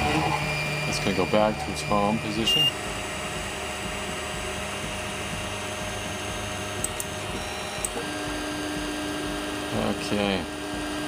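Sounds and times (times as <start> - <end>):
printer fans and motors whirring: 0.0 - 11.0
steady hum: 0.0 - 11.0.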